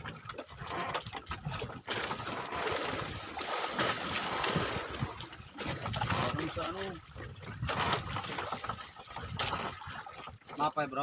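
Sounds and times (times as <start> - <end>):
short splashes: 0.0 - 11.0
water sloshing against boat: 0.0 - 11.0.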